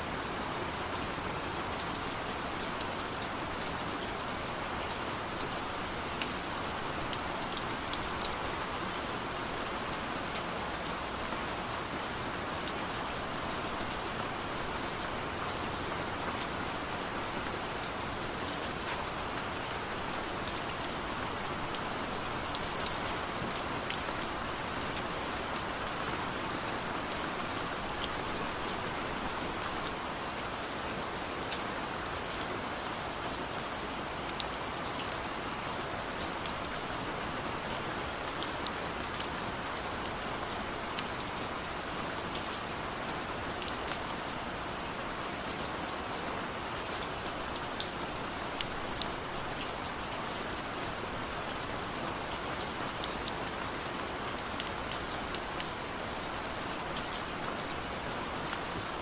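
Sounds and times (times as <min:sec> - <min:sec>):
steady rain hiss: 0:00.0 - 0:59.0
raindrops pattering on surfaces: 0:00.4 - 0:59.0.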